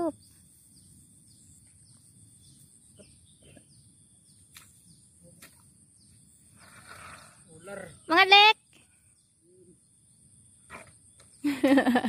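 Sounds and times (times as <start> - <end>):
high insect hum: 0.0 - 12.0.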